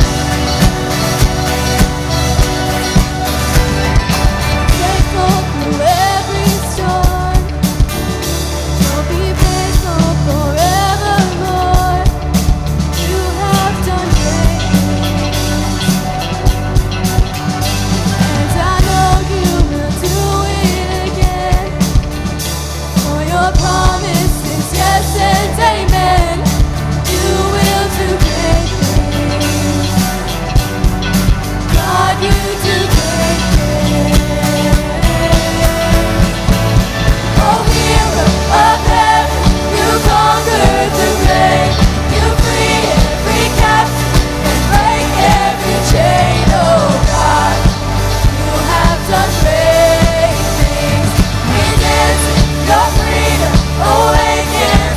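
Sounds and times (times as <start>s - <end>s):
person singing: 0.0s - 16.4s, 17.9s - 22.3s, 23.0s - 30.7s, 31.7s - 54.9s
band playing worship song: 0.0s - 54.9s.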